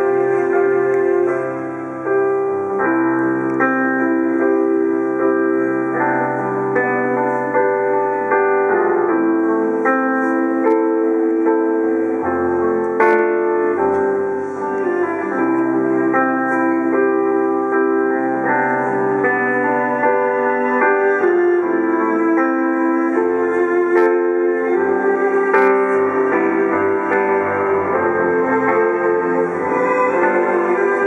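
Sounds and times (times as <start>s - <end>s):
grand piano ballad: 0.0s - 31.0s.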